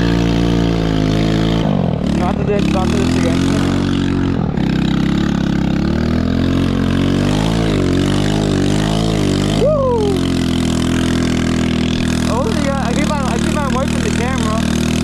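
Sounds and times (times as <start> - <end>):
small engine revving: 0.0 - 15.0.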